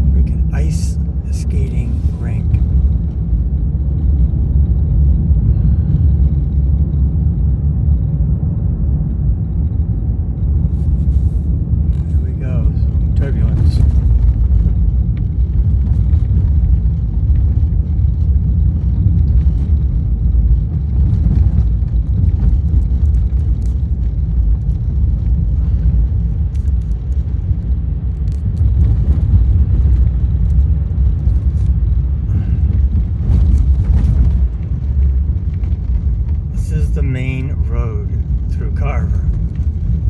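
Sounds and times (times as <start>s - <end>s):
car cabin rumble: 0.0s - 6.8s, 10.3s - 40.0s.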